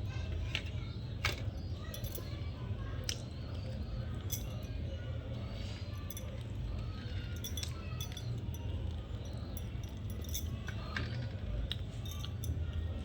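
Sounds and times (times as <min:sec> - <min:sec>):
small clicks and clinks: 0:00.3 - 0:04.9, 0:05.6 - 0:13.0.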